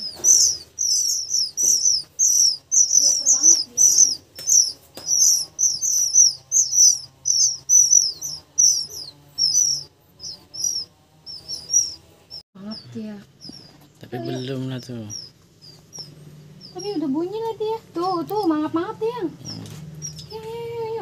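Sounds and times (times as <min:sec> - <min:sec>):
nestlings chirping for food: 0:00.0 - 0:21.0.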